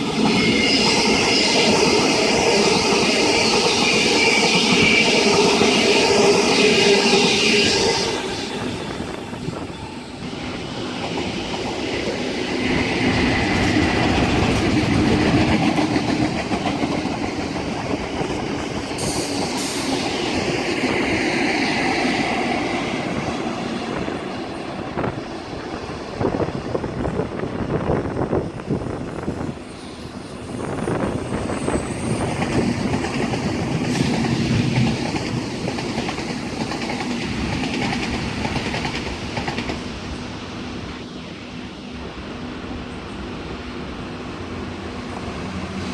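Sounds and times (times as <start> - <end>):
train wheels clattering on rails: 0.0 - 27.3, 30.1 - 40.3.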